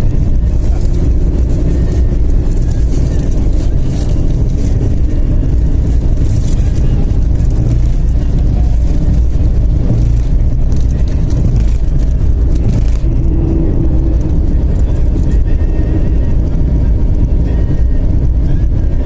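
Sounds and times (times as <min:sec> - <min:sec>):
car engine and road drone: 0:00.0 - 0:19.0.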